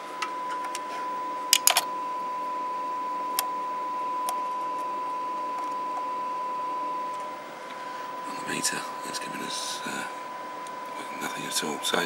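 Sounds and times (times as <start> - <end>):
steady radio tone: 0.4 - 12.0.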